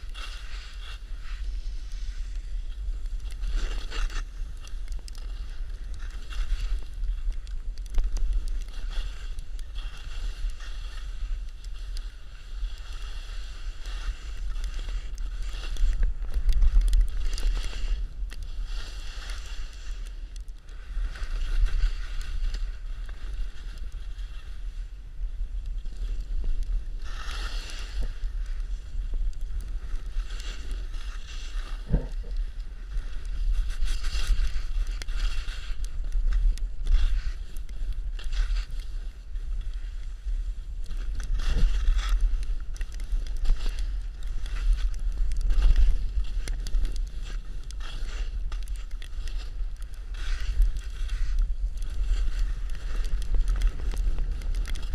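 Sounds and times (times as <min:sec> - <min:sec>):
skis scraping over snow: 0:00.0 - 0:54.9.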